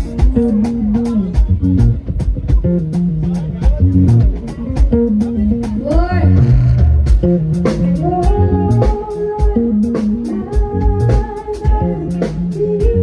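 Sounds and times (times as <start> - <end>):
bass line: 0.0 - 13.0
drum beat: 0.0 - 13.0
guitar: 0.0 - 13.0.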